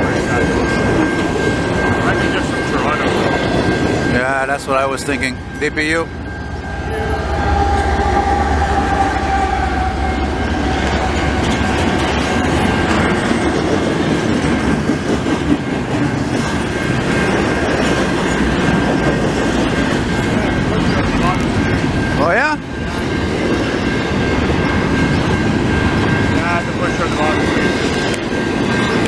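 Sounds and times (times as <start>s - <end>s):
locomotive engine drone: 0.0s - 29.0s
wheels on rails: 0.0s - 29.0s.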